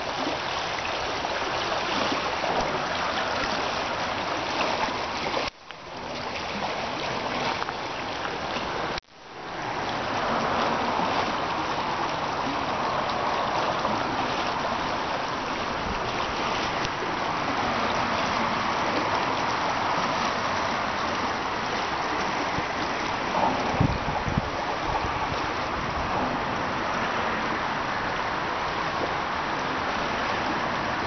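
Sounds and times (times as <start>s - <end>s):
river rushing over riffle: 0.0s - 31.0s.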